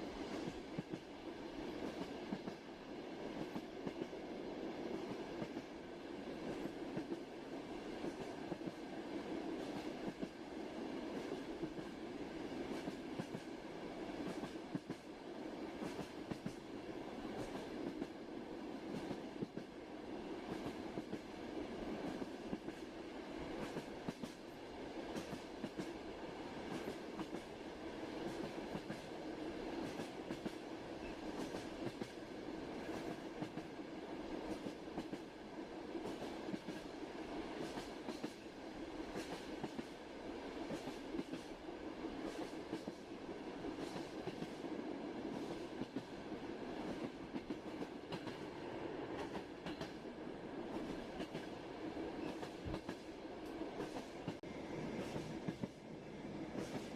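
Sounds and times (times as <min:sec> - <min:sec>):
train running on rails: 0:00.0 - 0:56.9.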